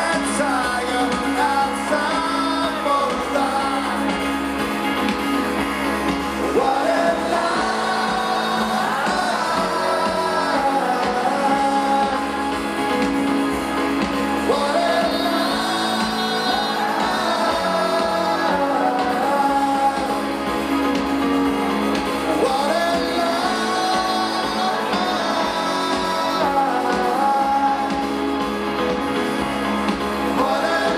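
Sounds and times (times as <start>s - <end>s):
live rock band playing: 0.0s - 30.9s
person singing: 0.0s - 30.9s.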